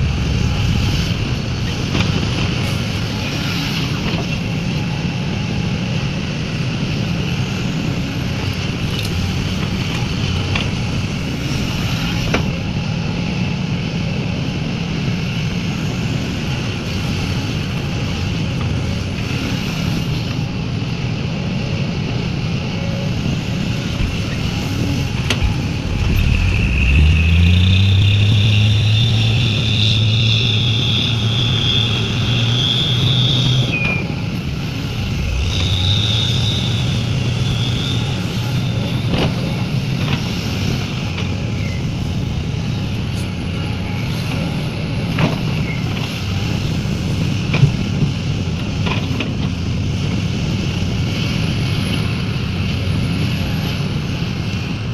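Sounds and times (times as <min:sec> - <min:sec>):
excavator diesel engine: 0:00.0 - 0:54.9
high hydraulic whine: 0:00.0 - 0:54.9.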